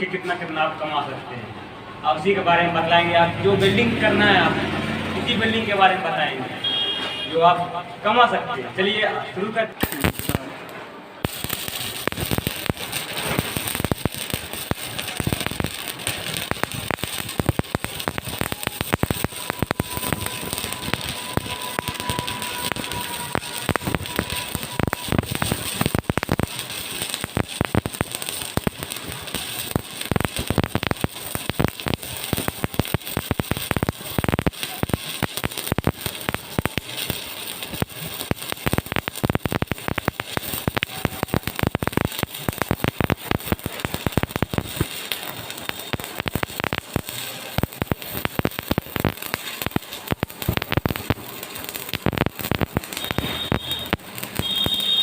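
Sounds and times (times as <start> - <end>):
welding arc crackling: 2.5 - 6.0, 9.7 - 55.0.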